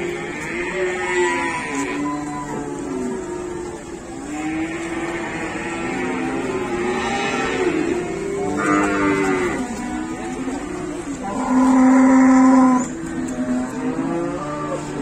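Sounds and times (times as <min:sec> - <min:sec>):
cattle mooing: 0:00.0 - 0:15.0.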